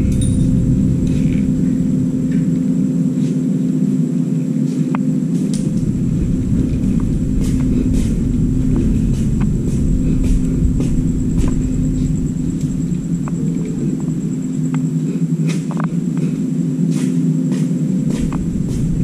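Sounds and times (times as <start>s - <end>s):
faint high whine: 0.0s - 19.0s
low machine hum: 0.0s - 19.0s.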